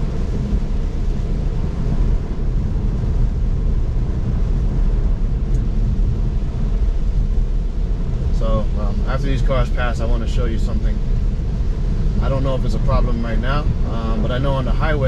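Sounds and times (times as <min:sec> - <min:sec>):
heavy rain on car: 0:00.0 - 0:15.0
tyre noise on wet road: 0:00.0 - 0:15.0.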